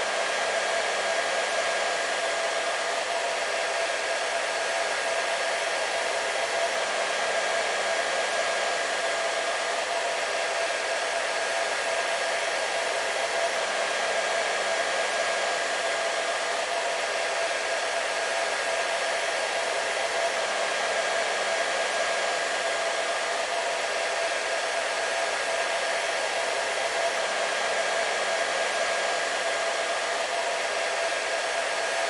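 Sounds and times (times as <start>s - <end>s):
hair dryer running: 0.0s - 32.0s.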